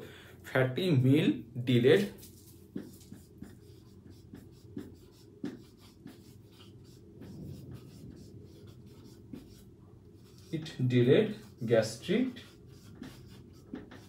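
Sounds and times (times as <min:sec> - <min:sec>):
marker writing on whiteboard: 0:02.0 - 0:14.0.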